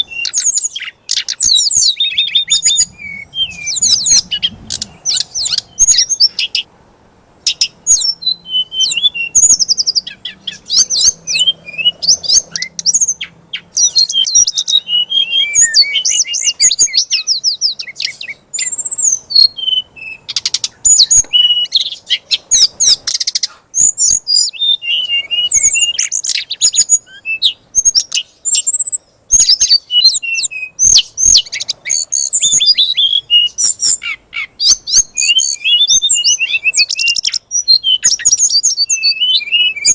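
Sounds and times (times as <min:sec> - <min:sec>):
songbird chirps whistles and trills: 0:00.0 - 0:06.7, 0:07.4 - 0:39.9.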